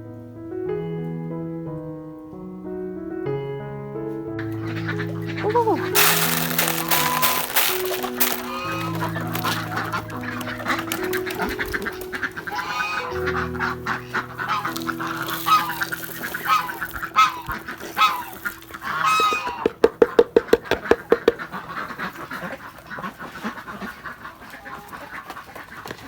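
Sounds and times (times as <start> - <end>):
waterfowl honking: 4.6 - 26.0.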